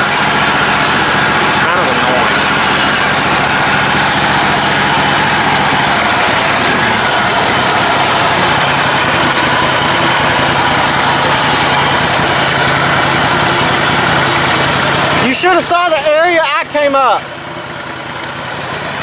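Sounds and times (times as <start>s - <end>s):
lawn tractor engine running: 0.0s - 19.0s.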